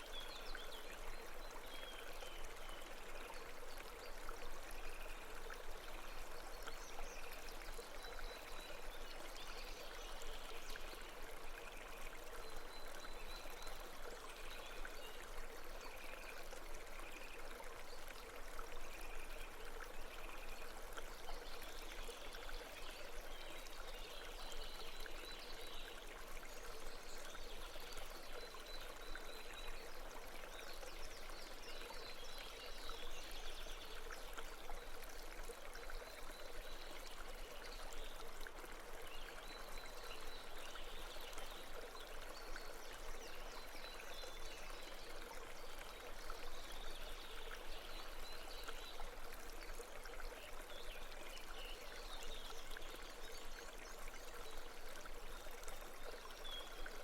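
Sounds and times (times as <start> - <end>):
babbling stream: 0.0 - 57.0.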